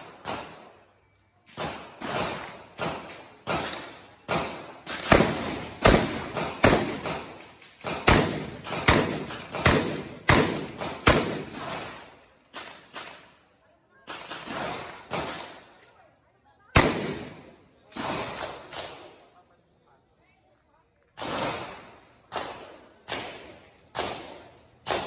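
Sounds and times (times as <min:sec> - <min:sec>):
shotgun shots echoing: 0:00.0 - 0:00.8, 0:01.6 - 0:13.2, 0:14.2 - 0:15.7, 0:16.8 - 0:19.1, 0:21.2 - 0:25.0.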